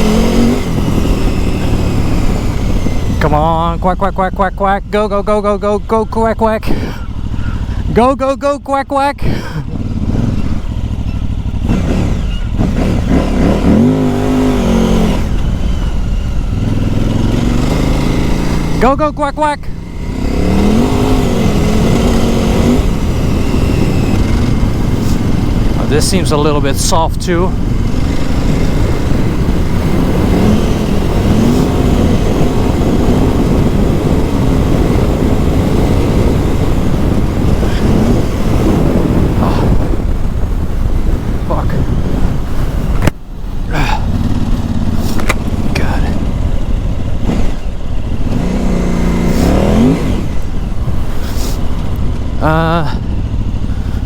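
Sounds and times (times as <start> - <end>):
motorcycle engine revving: 0.0 - 8.6, 9.4 - 54.0.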